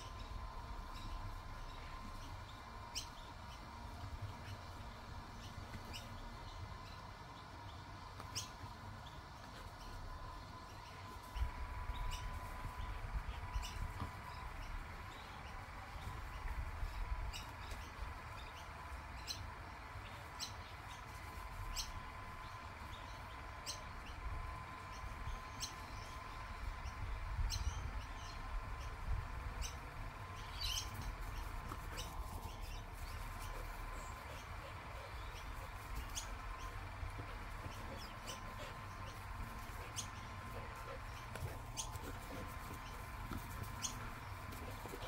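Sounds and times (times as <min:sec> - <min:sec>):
birds chirping: 0:00.0 - 0:45.0
thin steady hum: 0:00.0 - 0:45.0.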